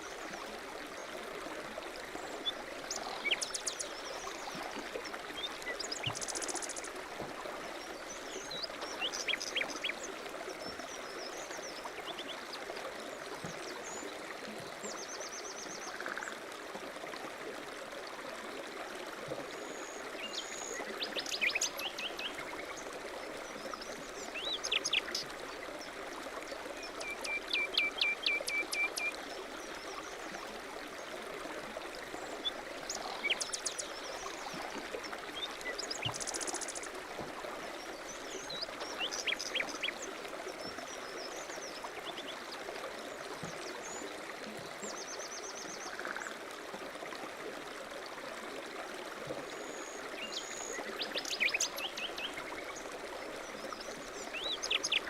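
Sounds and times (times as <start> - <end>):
stream running: 0.0 - 55.0.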